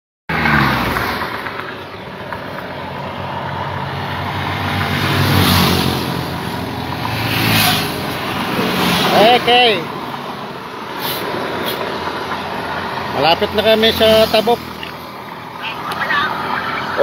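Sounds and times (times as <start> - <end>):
road noise: 0.3 - 17.0.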